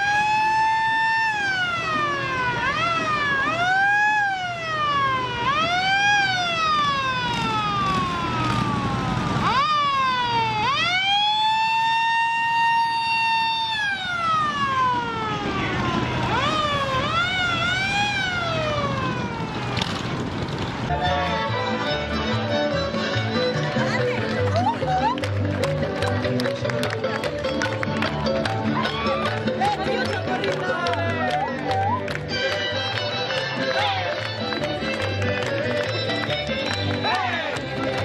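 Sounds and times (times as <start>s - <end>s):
fire engine siren wailing: 0.0s - 38.0s
vehicle engines running: 0.0s - 38.0s.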